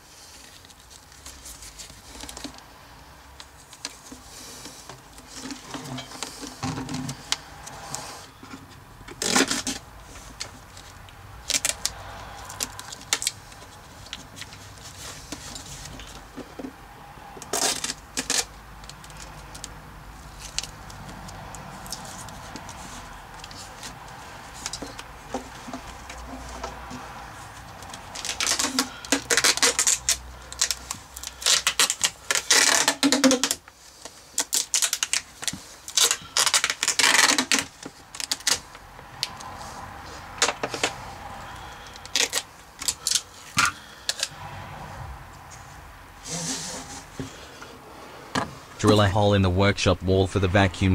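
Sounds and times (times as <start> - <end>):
tape peeling off roll crackling: 0.2 - 8.4, 9.1 - 44.4.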